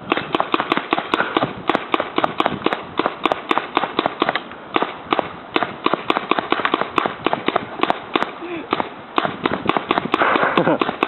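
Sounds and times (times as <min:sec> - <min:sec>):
paintball gun firing rapid shots: 0:00.0 - 0:11.0.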